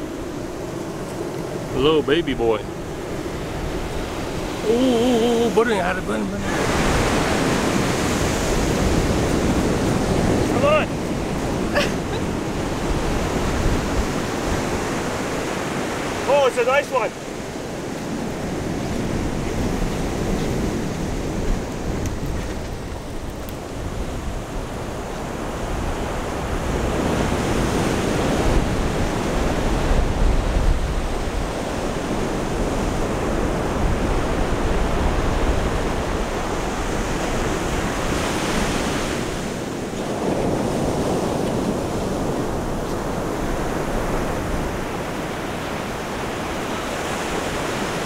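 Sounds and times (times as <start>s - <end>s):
wind rumbling on microphone: 0.0s - 16.2s, 17.2s - 48.0s
ocean surf breaking on beach: 0.0s - 48.0s.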